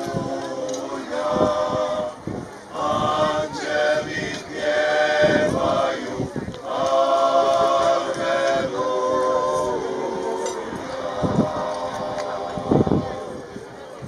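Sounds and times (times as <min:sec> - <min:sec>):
male vocal group singing harmony: 0:00.0 - 0:13.6.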